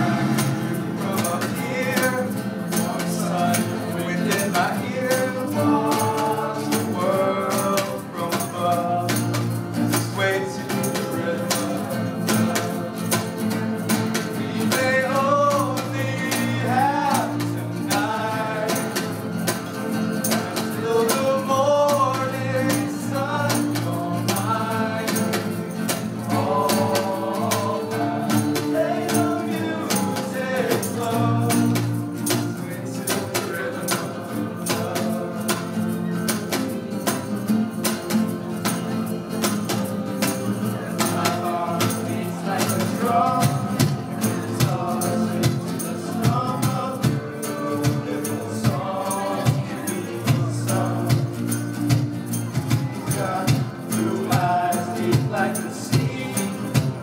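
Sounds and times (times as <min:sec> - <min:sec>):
acoustic guitars strumming: 0:00.0 - 0:57.0
men singing: 0:00.0 - 0:57.0.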